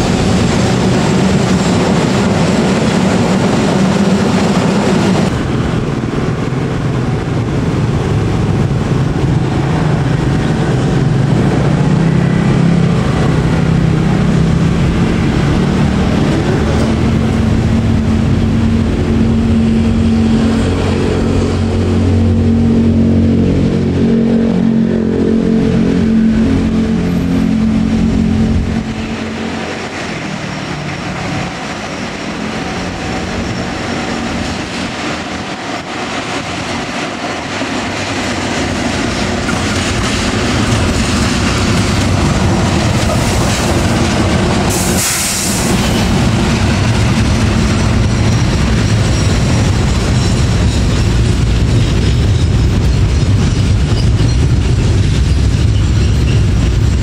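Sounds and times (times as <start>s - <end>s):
locomotive engine droning: 0.0s - 57.0s
train wheel and rail noise: 0.0s - 57.0s.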